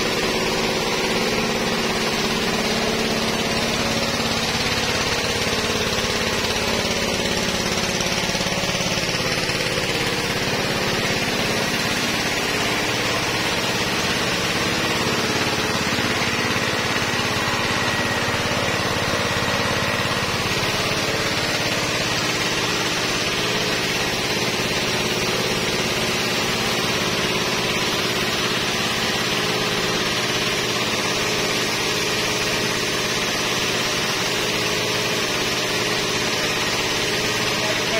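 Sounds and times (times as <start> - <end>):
pressure washer motor drone: 0.0 - 37.9.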